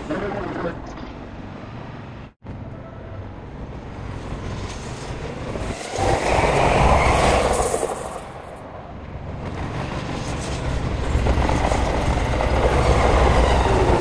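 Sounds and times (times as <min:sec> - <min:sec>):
passing train: 0:00.0 - 0:14.0
trains rumbling on tracks: 0:00.0 - 0:14.0.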